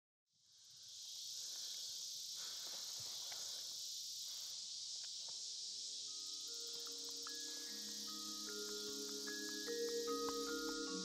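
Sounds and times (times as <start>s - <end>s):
insects chorus: 0.4s - 11.0s
faint ticks and rustles: 0.9s - 11.0s.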